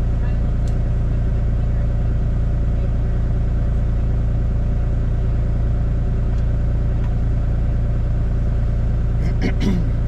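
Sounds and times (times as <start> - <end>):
excavator diesel engine drone: 0.0 - 10.0.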